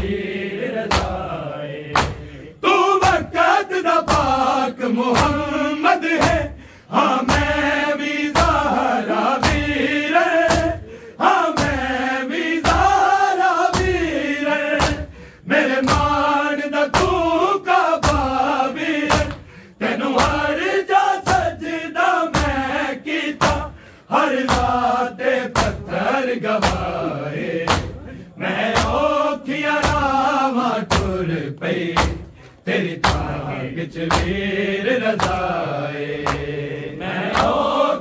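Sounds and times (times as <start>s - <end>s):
men chanting a lament: 0.0s - 38.0s.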